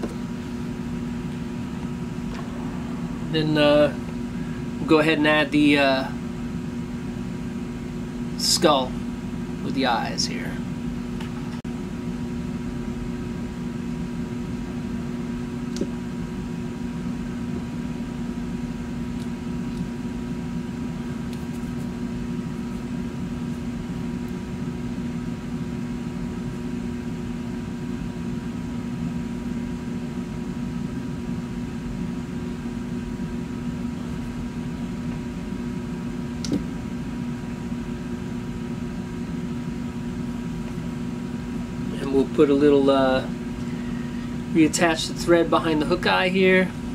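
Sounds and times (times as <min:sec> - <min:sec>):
machine hum with level tones: 0:00.0 - 0:46.9.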